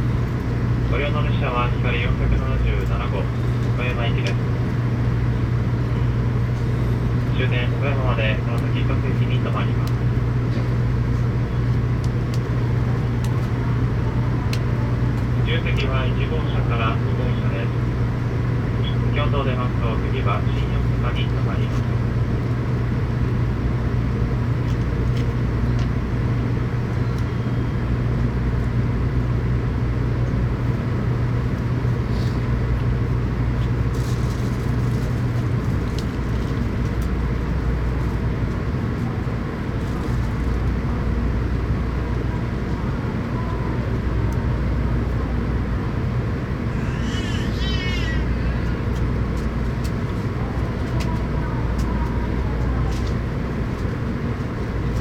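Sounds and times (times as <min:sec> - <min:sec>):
train car rumble and hum: 0:00.0 - 0:55.0.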